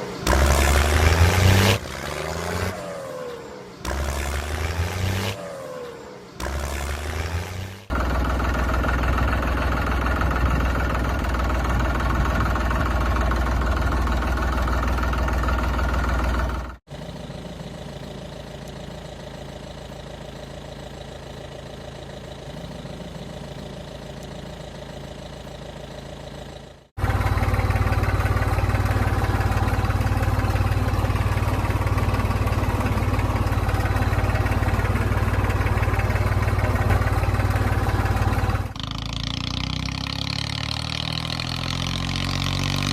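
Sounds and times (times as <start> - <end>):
vehicle engines running: 0.0 - 42.9.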